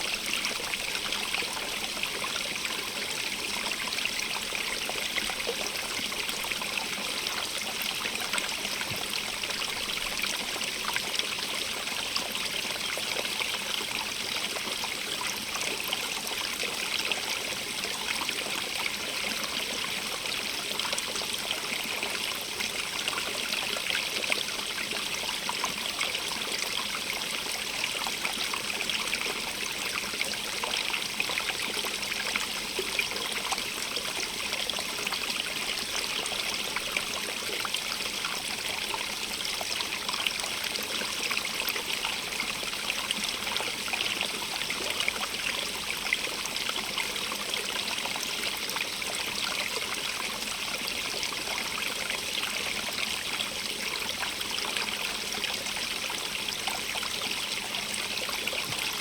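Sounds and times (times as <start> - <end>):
stream water running over rocks: 0.0 - 59.0.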